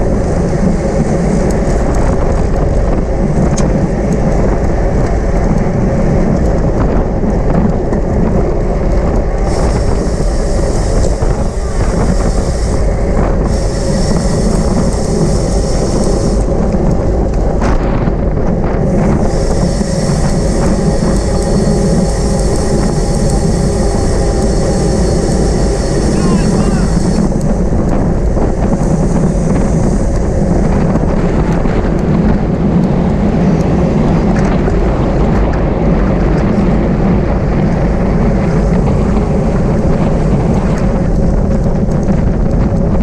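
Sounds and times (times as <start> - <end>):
bicycle tyre road noise: 0.0 - 43.0
wind on microphone: 0.0 - 43.0.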